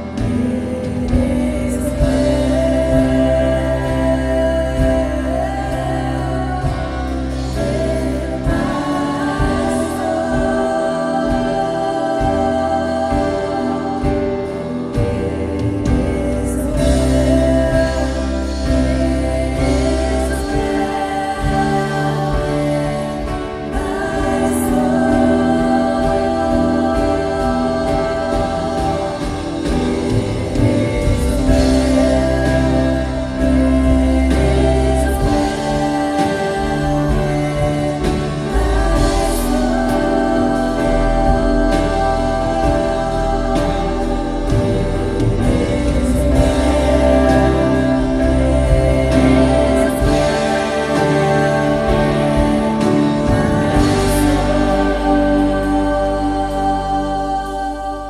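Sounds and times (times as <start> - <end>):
bass line: 0.0 - 58.0
keys and guitars chords: 0.0 - 58.0
people singing: 0.0 - 58.0.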